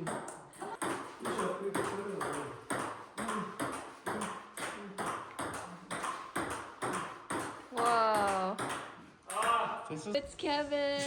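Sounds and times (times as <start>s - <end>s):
ping-pong ball clicking: 0.0s - 9.6s.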